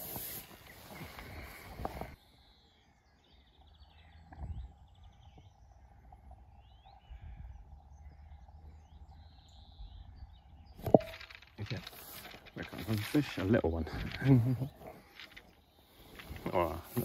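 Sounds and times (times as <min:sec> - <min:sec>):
faint birdsong chirps and trills: 0:00.0 - 0:17.0.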